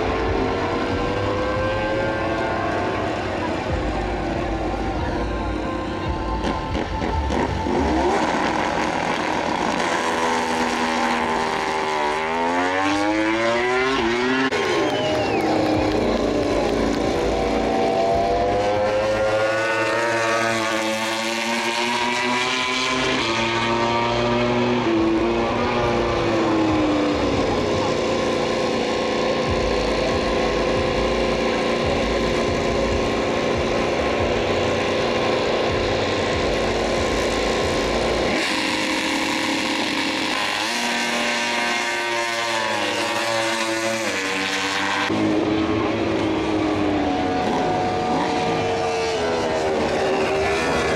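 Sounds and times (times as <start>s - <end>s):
racing motorcycles revving: 0.0s - 50.9s.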